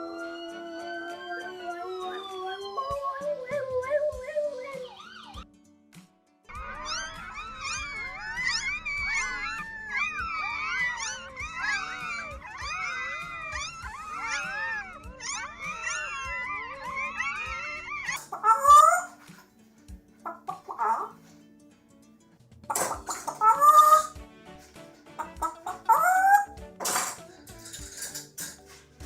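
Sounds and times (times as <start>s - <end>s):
dogs howling and whining: 0.0s - 5.5s, 6.5s - 19.4s, 20.3s - 21.2s, 22.7s - 24.2s, 25.2s - 28.2s.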